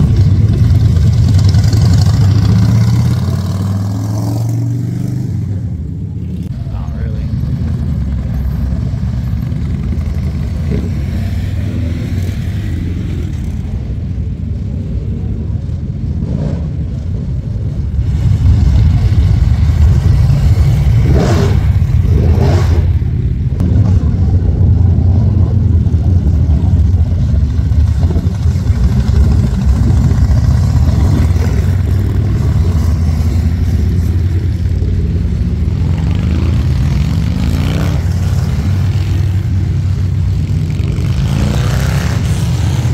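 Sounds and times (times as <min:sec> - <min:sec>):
motorcycle engines revving: 0:00.0 - 0:42.9
motorcycle engines rumbling: 0:00.0 - 0:42.9.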